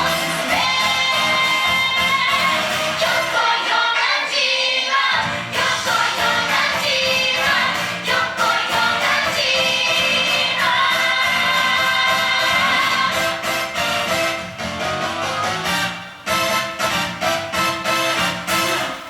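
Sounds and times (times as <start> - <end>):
song with singing voices: 0.0 - 19.0.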